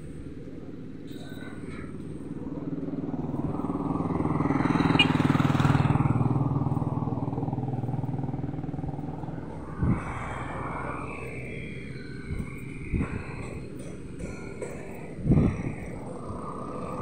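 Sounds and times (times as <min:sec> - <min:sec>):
vehicle engine passing: 0:01.3 - 0:17.0.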